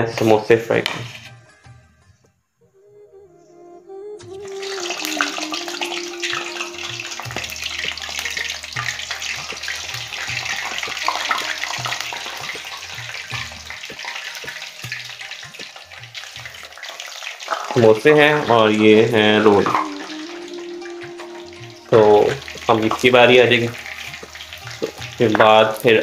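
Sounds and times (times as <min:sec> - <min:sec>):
food deep-frying in hot oil: 0:04.4 - 0:26.0.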